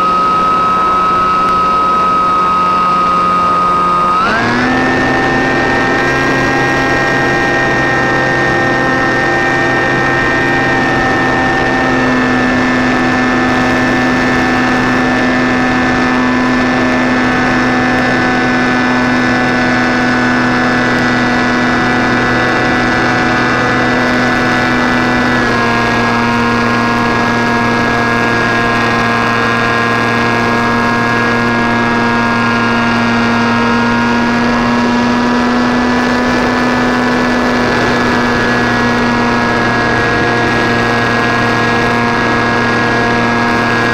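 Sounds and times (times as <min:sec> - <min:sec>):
model plane motor droning whine: 0:00.0 - 0:43.9.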